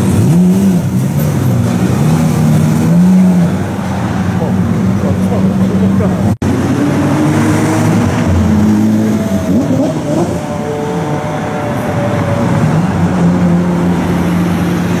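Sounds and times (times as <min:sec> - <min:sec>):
sports car engines revving: 0:00.0 - 0:15.0.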